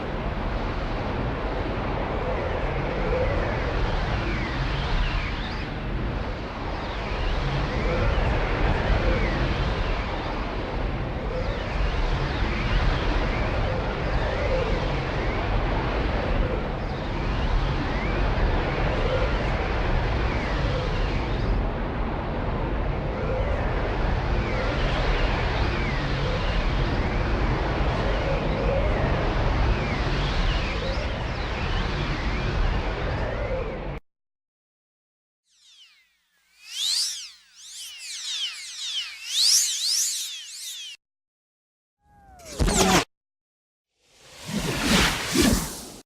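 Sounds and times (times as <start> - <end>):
faint whistling glides: 0.1 - 21.9, 22.9 - 34.0, 35.5 - 41.0.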